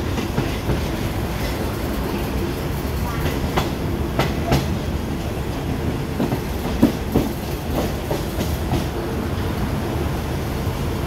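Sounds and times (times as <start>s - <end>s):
wheels clacking over rail joints: 0.0s - 9.1s
train wheels rumbling on track: 0.0s - 11.0s.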